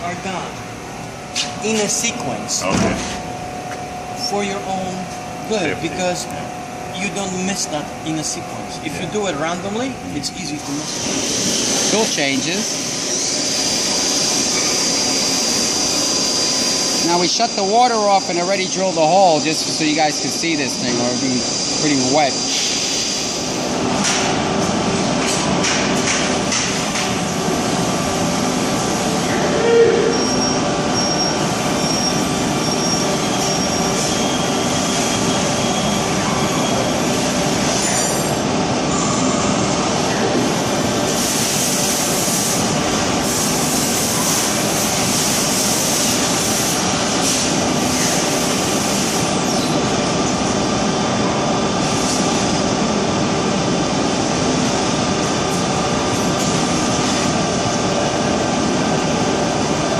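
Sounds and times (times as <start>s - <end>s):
lathe spindle and cutting noise: 3.7s - 25.2s, 30.2s - 59.9s.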